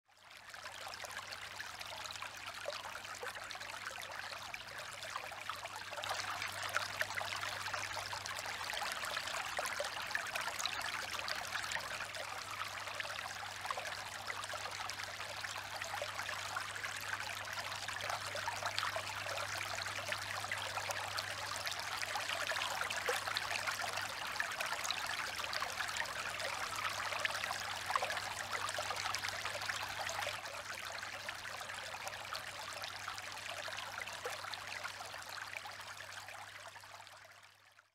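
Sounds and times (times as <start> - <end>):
water fountain trickling: 0.3 - 37.5.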